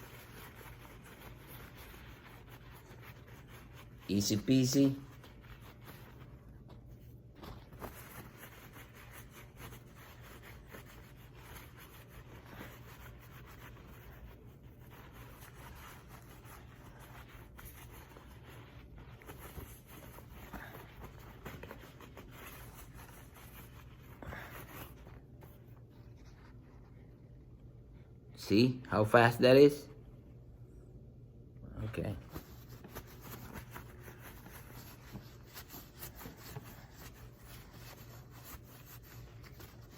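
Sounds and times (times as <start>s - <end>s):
paper towel rubbing metal: 0.0s - 27.1s, 32.0s - 39.9s.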